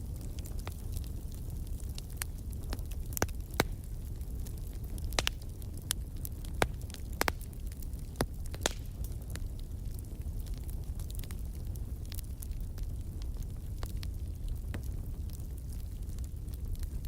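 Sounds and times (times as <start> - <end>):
fire pops and snaps: 0.0 - 17.0
low rumble of flames: 0.0 - 17.0.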